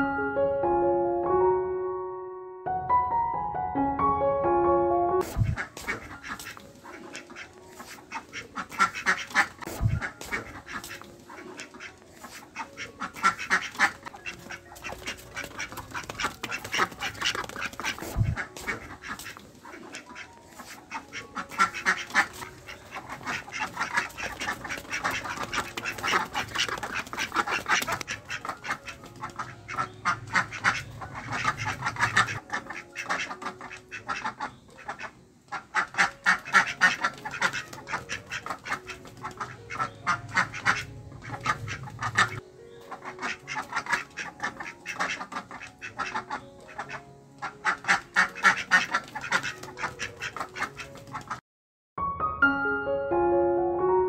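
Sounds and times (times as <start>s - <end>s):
ducks quacking: 5.2s - 51.4s.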